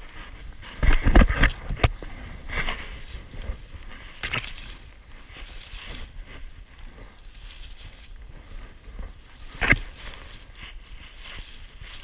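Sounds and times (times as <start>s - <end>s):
leafy branches rustling and cracking: 0.0s - 12.0s.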